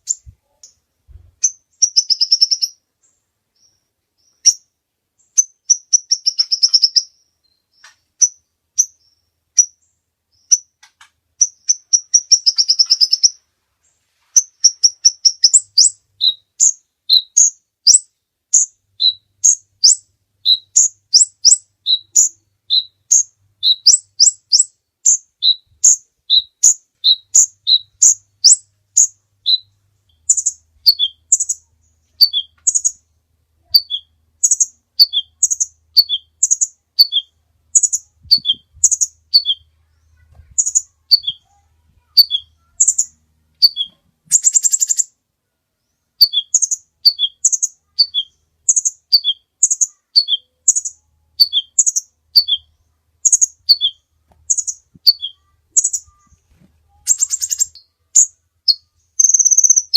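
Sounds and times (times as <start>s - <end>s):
bird singing high chirps: 0.0s - 0.8s, 1.4s - 10.8s, 11.4s - 13.4s, 14.4s - 45.2s, 45.8s - 59.9s.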